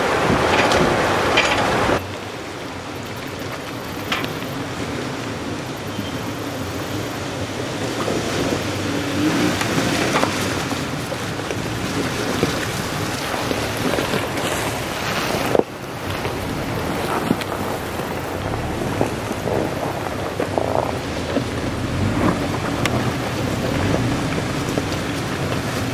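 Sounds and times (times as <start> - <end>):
truck engines running: 0.0 - 25.9
tyres splashing through water: 0.0 - 25.9.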